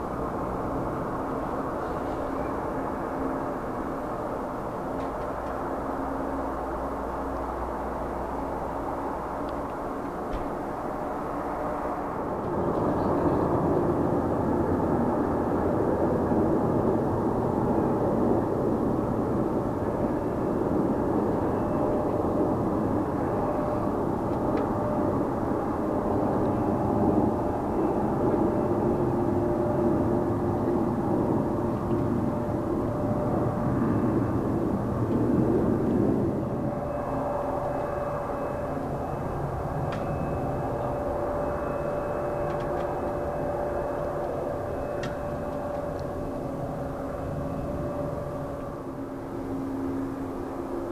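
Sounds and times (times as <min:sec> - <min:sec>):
jet engine noise: 0:00.0 - 0:50.9.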